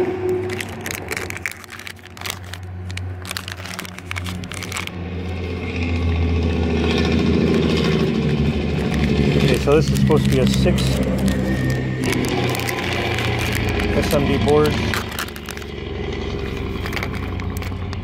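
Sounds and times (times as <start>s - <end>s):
vehicle engine running: 0.0s - 18.0s
foil bags crinkling: 0.2s - 5.0s, 7.0s - 18.0s.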